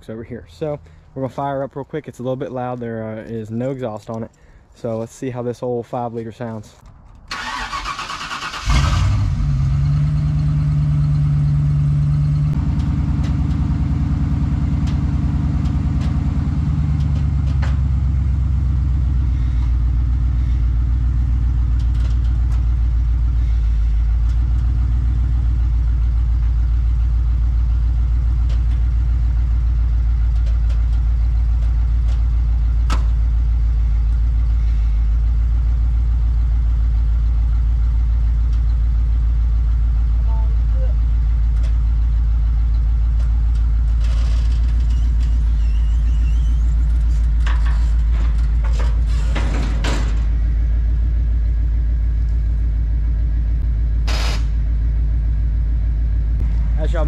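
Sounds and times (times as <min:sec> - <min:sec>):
car engine starting: 0:07.1 - 0:57.0
loud engine idling: 0:07.4 - 0:57.0.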